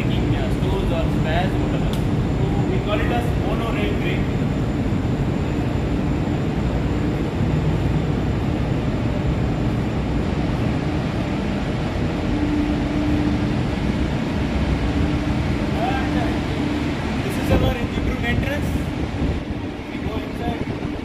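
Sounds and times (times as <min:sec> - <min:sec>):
faint hum: 0:00.0 - 0:21.0
loud low rumbling: 0:00.0 - 0:21.0.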